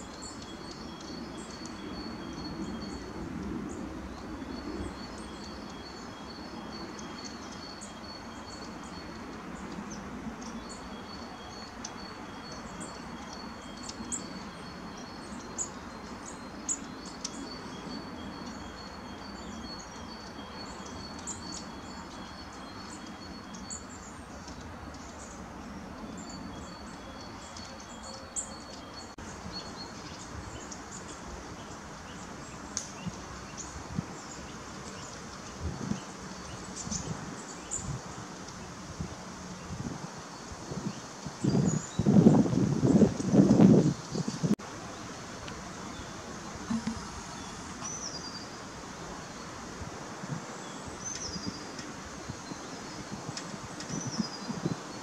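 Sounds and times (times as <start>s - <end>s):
small birds chirping: 0.0s - 49.6s, 50.3s - 55.0s
steady background hiss: 0.0s - 55.0s.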